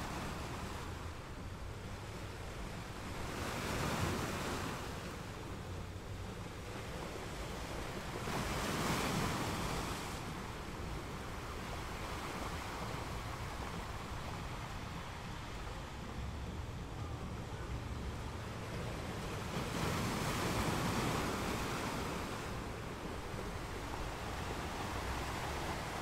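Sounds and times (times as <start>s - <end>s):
waves crashing: 0.0s - 26.0s.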